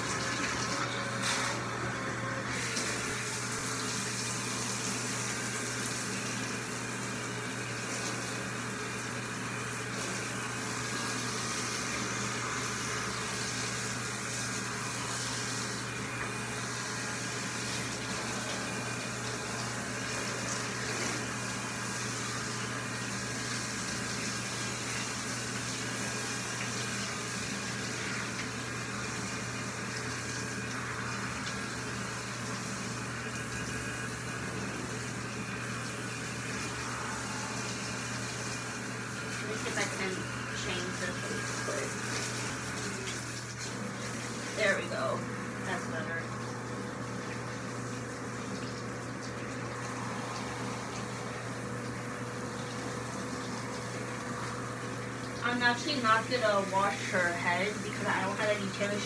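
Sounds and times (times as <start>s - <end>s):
shower sprayer running: 0.0s - 59.0s
water spraying on wet fur: 2.5s - 59.0s.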